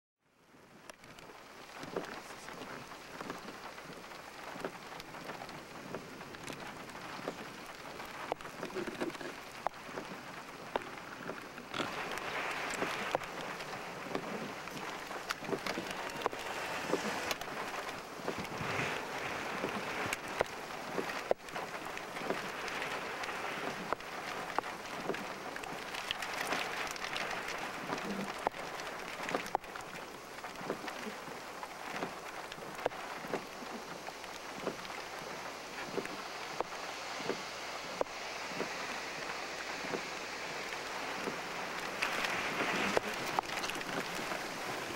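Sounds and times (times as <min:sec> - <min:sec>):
steady rain hissing: 0:00.2 - 0:44.9
raindrops ticking on surface: 0:00.3 - 0:44.9.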